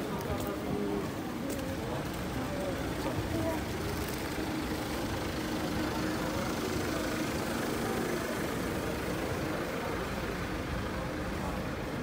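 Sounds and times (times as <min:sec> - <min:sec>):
city street noise: 0:00.0 - 0:12.0
vehicle engine running: 0:01.8 - 0:12.0.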